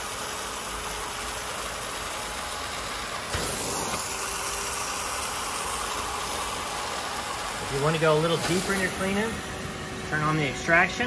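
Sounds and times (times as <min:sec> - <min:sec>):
steam hissing: 0:00.0 - 0:10.9
vacuum motor drone: 0:00.0 - 0:11.0.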